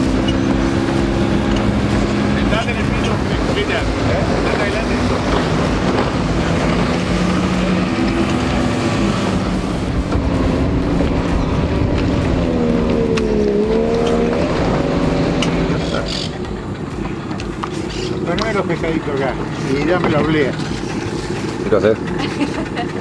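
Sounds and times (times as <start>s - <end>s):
motorboat engines at speed: 0.0s - 23.0s.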